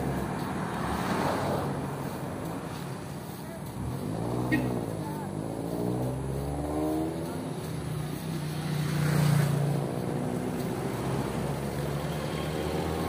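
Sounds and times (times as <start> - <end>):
vehicle engine passing: 0.0 - 13.0.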